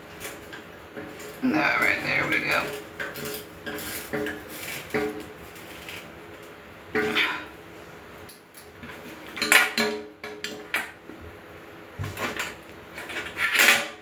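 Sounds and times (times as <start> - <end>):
metal grill parts clanking: 0.0 - 7.3, 8.3 - 11.0, 12.1 - 14.0.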